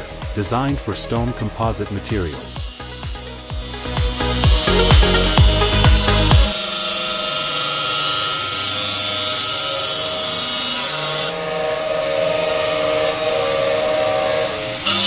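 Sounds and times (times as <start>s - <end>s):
saw mechanical whine: 0.0s - 15.0s
grinding hiss of stone cutting: 0.4s - 15.0s.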